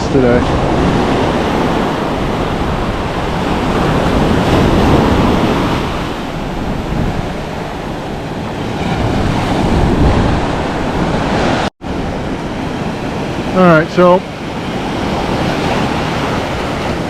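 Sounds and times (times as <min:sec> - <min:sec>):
ocean surf washing onto beach: 0:00.0 - 0:17.0
wind rushing over microphone: 0:00.0 - 0:17.0.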